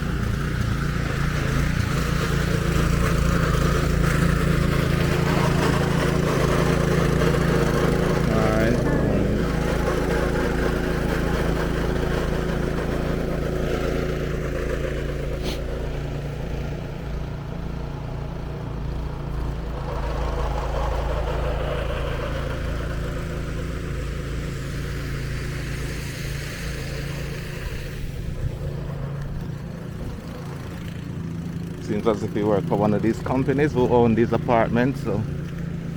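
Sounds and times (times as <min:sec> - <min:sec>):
snow blower engine running: 0:00.0 - 0:35.9.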